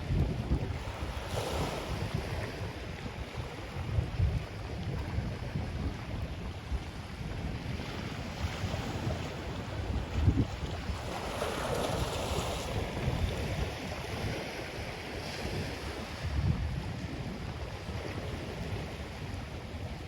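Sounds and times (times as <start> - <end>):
ocean waves washing on beach: 0.0 - 20.0
wind buffeting microphone: 0.0 - 20.0.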